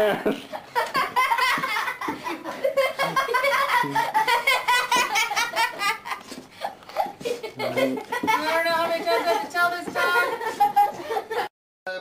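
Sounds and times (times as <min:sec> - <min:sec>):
hearty laughter: 0:00.0 - 0:11.5.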